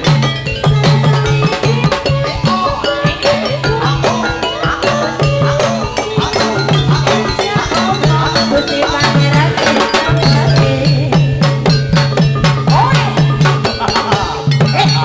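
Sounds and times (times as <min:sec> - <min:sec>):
gamelan music over loudspeakers: 0:00.0 - 0:15.0.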